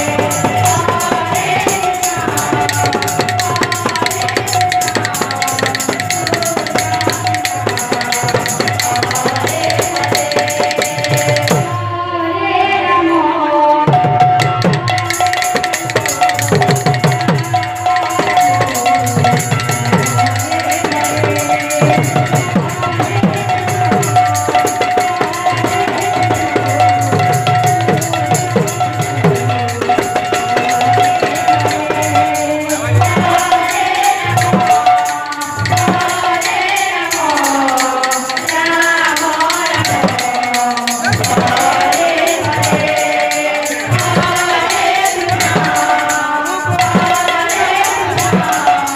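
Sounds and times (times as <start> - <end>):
hand drum: 0.0 - 11.8, 13.9 - 48.9
small metal cymbals: 0.0 - 11.8, 14.3 - 48.9
person singing: 0.0 - 48.9.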